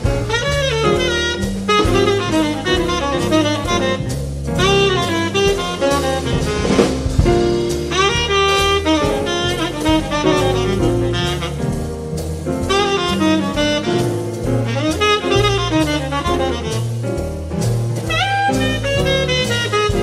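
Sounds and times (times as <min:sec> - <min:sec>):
drum kit: 0:00.0 - 0:20.0
piano: 0:00.0 - 0:20.0
upright double bass: 0:00.0 - 0:20.0
saxophone melody: 0:00.2 - 0:12.0, 0:12.7 - 0:17.0, 0:18.1 - 0:20.0.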